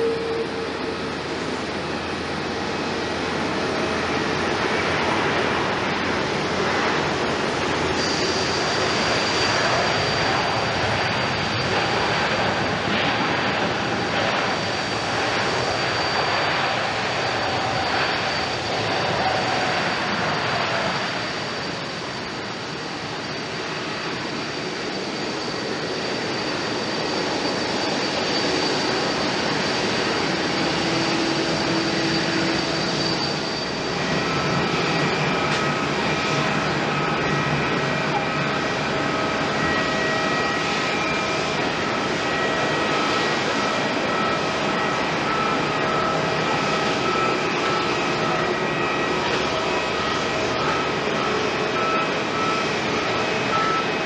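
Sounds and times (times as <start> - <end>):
thin high whine: 0.0 - 23.0, 24.8 - 54.0
jet engines roaring: 0.0 - 54.0.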